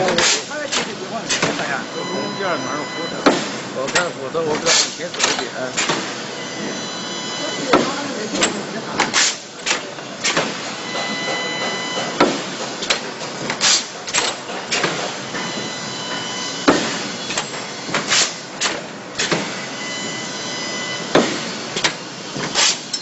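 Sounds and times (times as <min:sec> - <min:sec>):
welding machine clacking: 0:00.0 - 0:01.9, 0:02.5 - 0:06.8, 0:07.4 - 0:20.3, 0:20.9 - 0:23.0.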